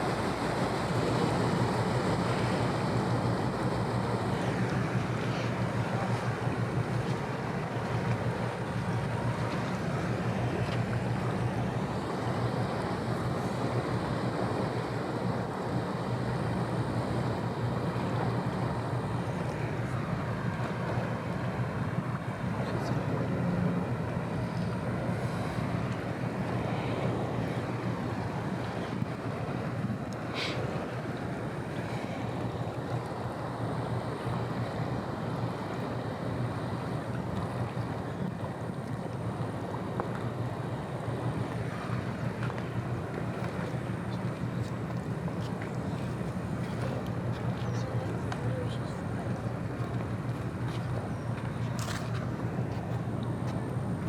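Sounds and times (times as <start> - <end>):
boat engine droning: 0.0 - 54.0
water wash: 0.0 - 54.0.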